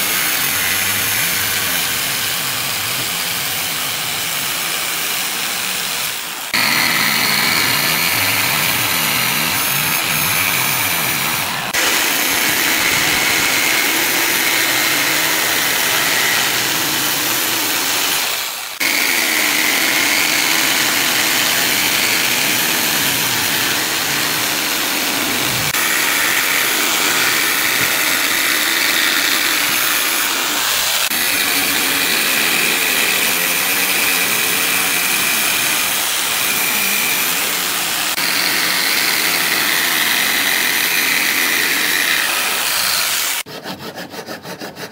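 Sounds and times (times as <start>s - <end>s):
jigsaw sawing wood: 0.0s - 44.9s.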